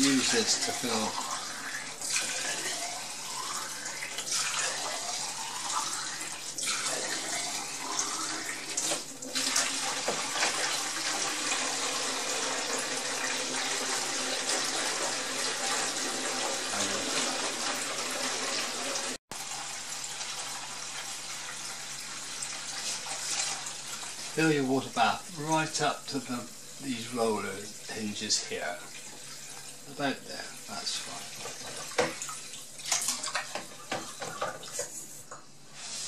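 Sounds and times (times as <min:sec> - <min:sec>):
water running through a hose: 0:00.0 - 0:36.0.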